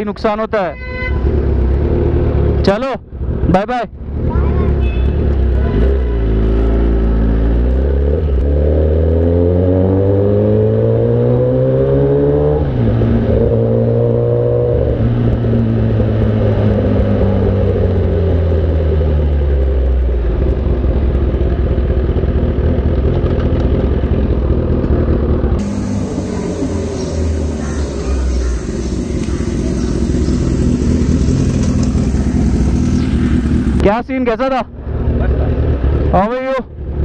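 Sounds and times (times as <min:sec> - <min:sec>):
motorcycle engine accelerating: 0:01.2 - 0:37.0.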